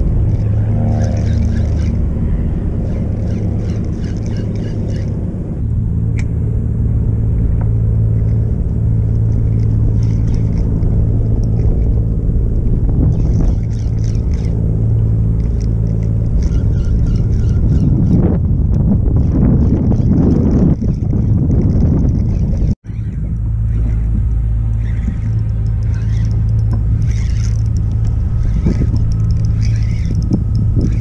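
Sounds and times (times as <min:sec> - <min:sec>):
choppy water: 0:00.0 - 0:05.6, 0:07.3 - 0:31.0
boat engine humming: 0:00.0 - 0:31.0.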